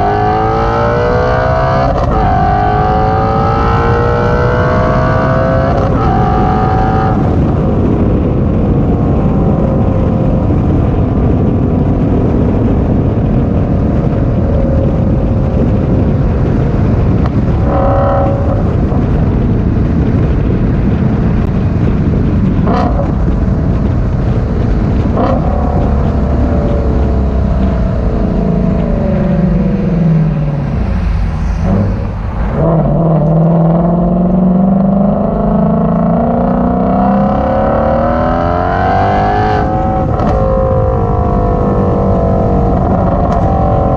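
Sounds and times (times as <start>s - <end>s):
car engine revving hard: 0.0s - 13.2s, 13.9s - 19.3s, 22.5s - 43.9s.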